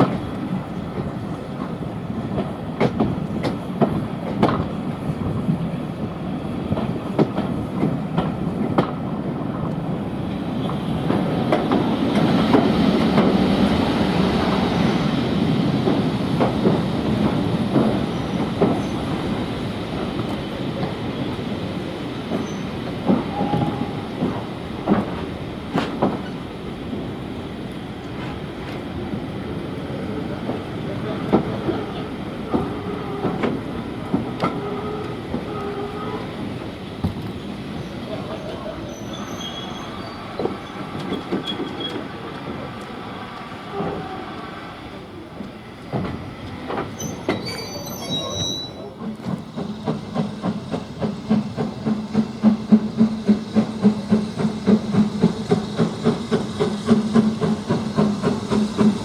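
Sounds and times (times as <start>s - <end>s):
train wheels clicking over rail joints: 0.0s - 44.5s, 45.3s - 59.0s
train rumble: 0.0s - 59.0s.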